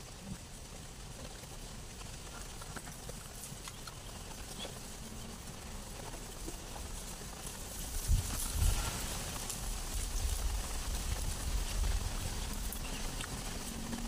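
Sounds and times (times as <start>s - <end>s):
leaves rustling: 0.0s - 14.0s.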